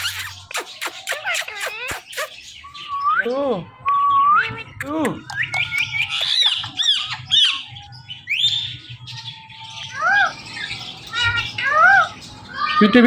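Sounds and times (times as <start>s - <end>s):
parakeet squawking: 0.0s - 2.8s, 4.4s - 12.8s.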